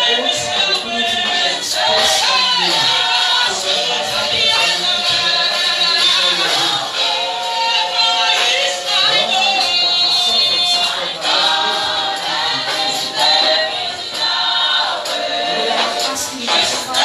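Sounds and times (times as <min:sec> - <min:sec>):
choir singing along: 0:00.0 - 0:17.0
woman singing gospel: 0:00.0 - 0:17.0.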